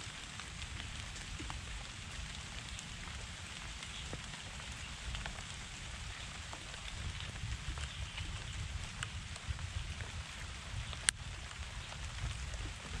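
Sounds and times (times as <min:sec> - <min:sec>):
rain on leaves: 0:00.0 - 0:13.0.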